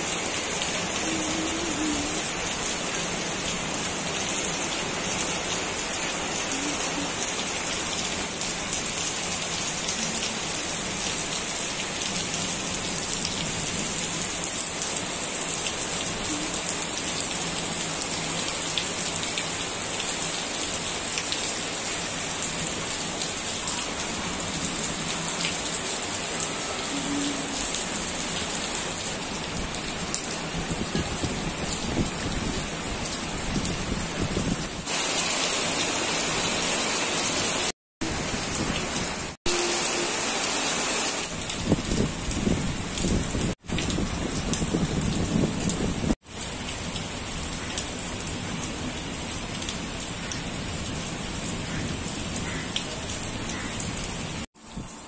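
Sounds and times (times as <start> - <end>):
heavy rain on leaves and water: 0.0 - 55.0.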